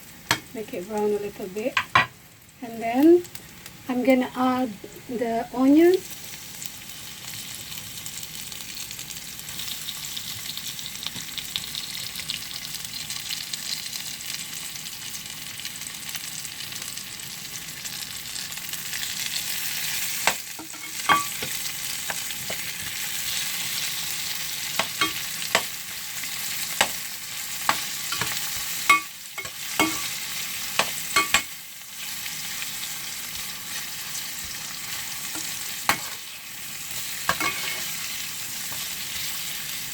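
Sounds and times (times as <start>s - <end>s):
garlic and pork sizzling: 0.0s - 39.9s.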